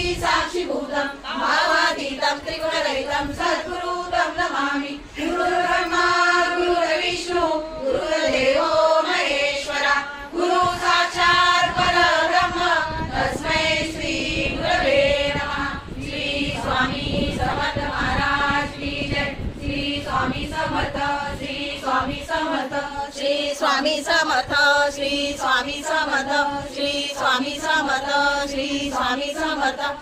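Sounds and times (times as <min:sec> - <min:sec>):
women and children chanting: 0:00.0 - 0:30.0.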